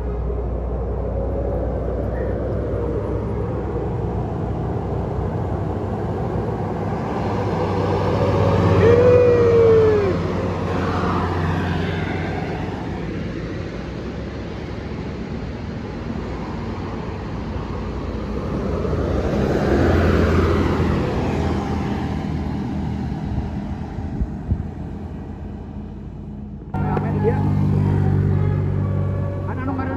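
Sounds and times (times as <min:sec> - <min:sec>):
road traffic passing: 0:00.0 - 0:29.9.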